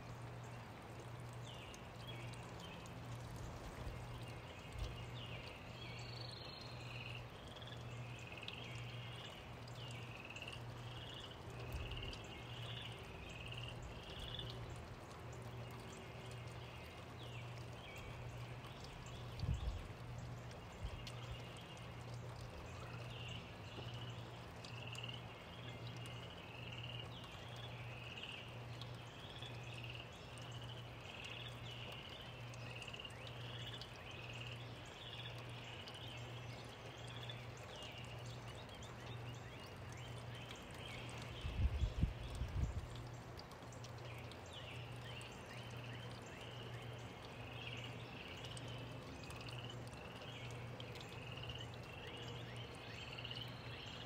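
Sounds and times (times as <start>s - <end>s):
gentle rain: 0.0s - 54.0s.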